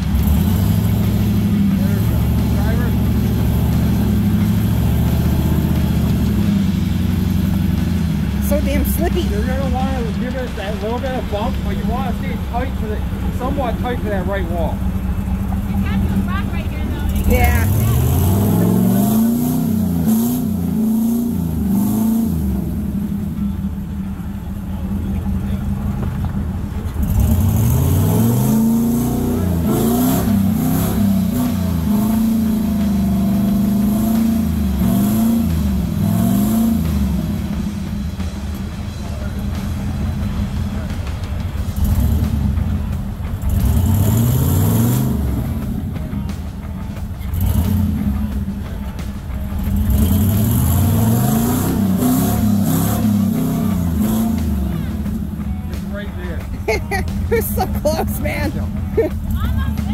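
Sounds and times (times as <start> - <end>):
engine revving under load: 0.0 - 59.9.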